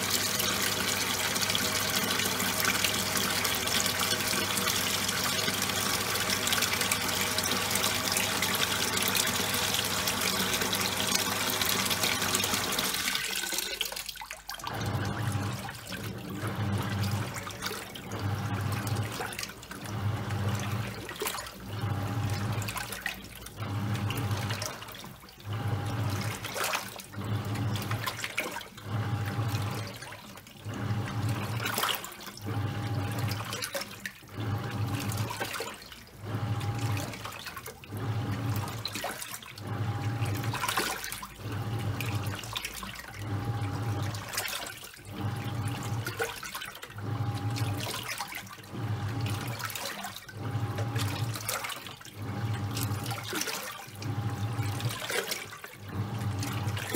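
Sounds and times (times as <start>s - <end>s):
washing machine motor humming: 0.0s - 56.9s
water and wet towels sloshing: 0.0s - 56.9s.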